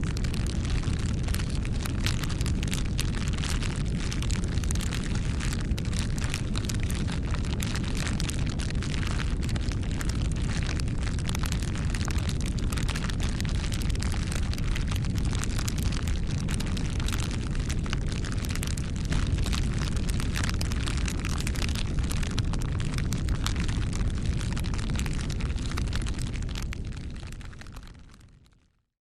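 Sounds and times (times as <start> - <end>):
bonfire crackling: 0.0 - 28.4.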